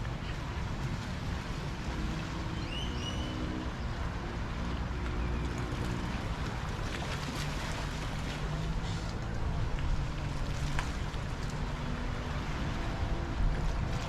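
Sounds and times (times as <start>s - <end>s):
distant boat motor hum: 0.0s - 14.0s
water washing on shore: 0.0s - 14.0s
wind: 0.0s - 14.0s.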